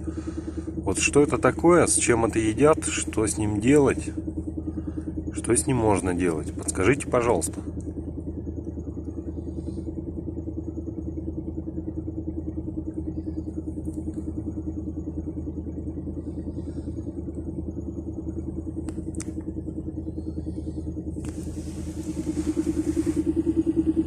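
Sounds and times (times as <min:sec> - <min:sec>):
van engine idling with knocking: 0:00.0 - 0:24.0.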